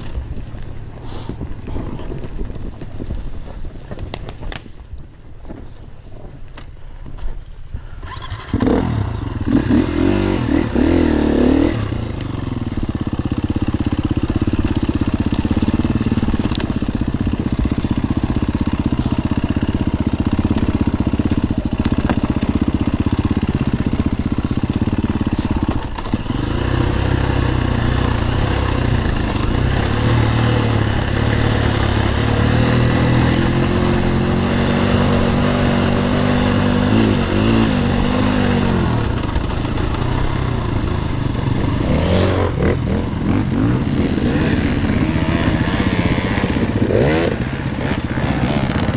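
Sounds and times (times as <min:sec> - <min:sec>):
dirt bike engine revving: 0:08.0 - 0:48.9.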